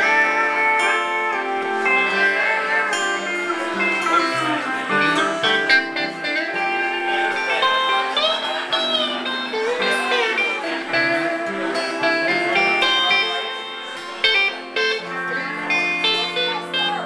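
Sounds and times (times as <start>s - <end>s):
pedal steel guitar sliding notes: 0.0s - 17.0s
strummed acoustic guitar: 0.0s - 17.0s.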